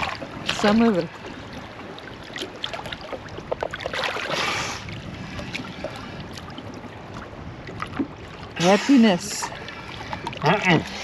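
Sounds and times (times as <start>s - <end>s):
water splashing and lapping: 0.0s - 11.0s.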